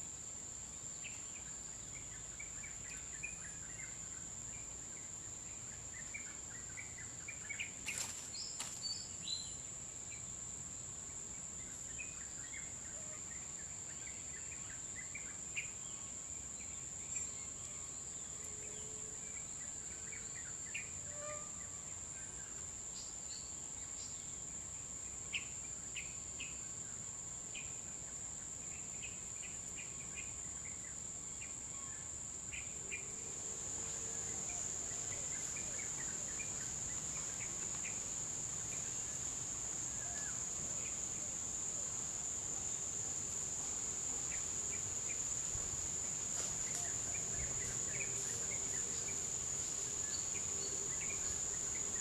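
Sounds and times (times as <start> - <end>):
shrill insect chorus: 0.0 - 52.0.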